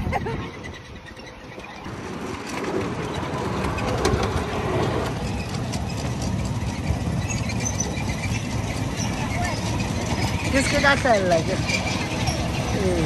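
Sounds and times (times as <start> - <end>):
ride-on train rumbling and rattling: 0.0 - 13.0.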